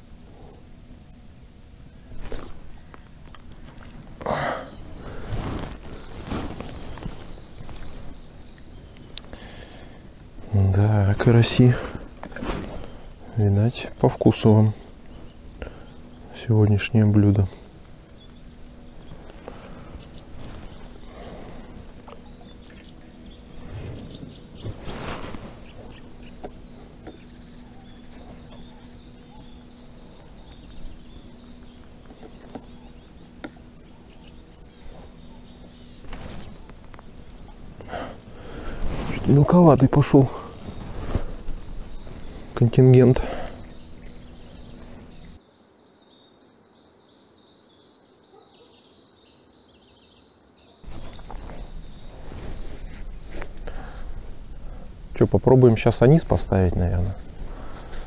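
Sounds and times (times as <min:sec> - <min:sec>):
steady outdoor rush with low rumble: 0:00.0 - 0:45.4, 0:50.9 - 0:58.0
steady low hum: 0:00.0 - 0:45.5, 0:50.8 - 0:58.0
small birds chirping: 0:00.0 - 0:58.0.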